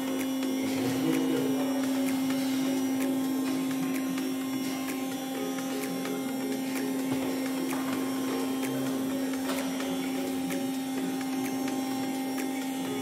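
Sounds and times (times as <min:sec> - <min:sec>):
hydraulic drive humming: 0:00.0 - 0:13.0.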